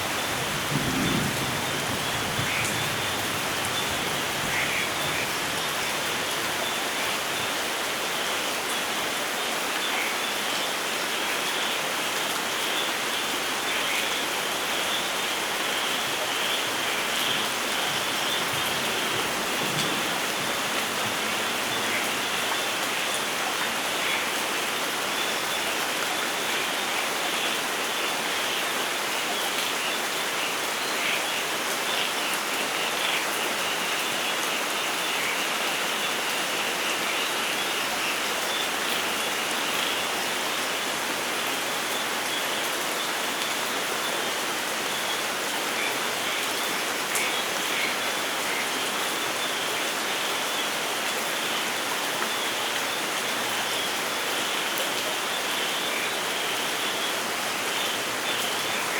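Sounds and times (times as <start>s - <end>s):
patter of raindrops: 0.0s - 58.9s
rain hiss: 0.0s - 58.9s.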